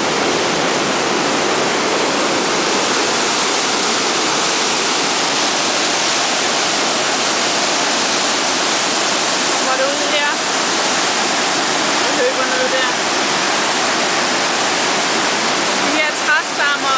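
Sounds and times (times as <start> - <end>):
waterfall rushing through rock gorge: 0.0 - 16.9.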